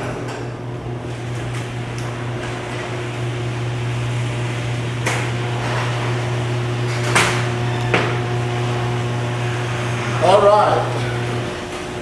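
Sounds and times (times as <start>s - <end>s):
garage door motor hum: 0.0s - 12.0s.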